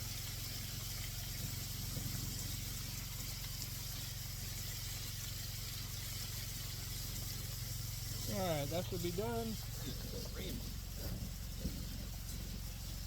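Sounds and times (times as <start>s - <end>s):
low steady hum: 0.0s - 13.0s
meat frying in hot oil: 0.0s - 13.0s.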